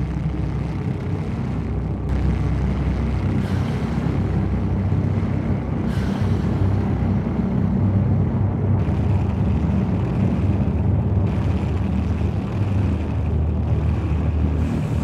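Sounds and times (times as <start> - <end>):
low rumbling ambient drone: 0.0 - 15.0.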